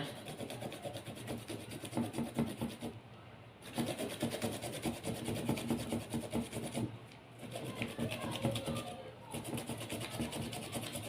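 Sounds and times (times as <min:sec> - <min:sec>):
ginger rasping on a grater: 0:00.0 - 0:03.0, 0:03.6 - 0:11.0.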